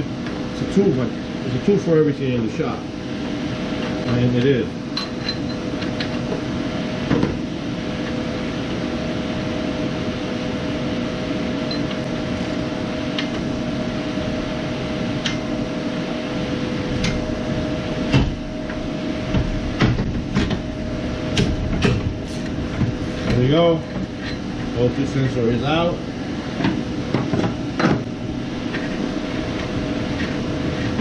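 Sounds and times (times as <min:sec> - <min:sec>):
steady two-tone machine hum: 0:00.0 - 0:31.0.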